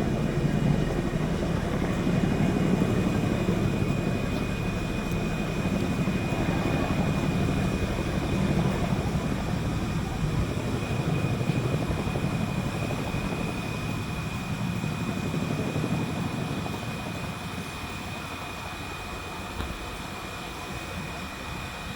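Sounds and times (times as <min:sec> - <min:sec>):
helicopter rotors beating: 0:00.0 - 0:21.9
high turbine whine: 0:00.0 - 0:21.9.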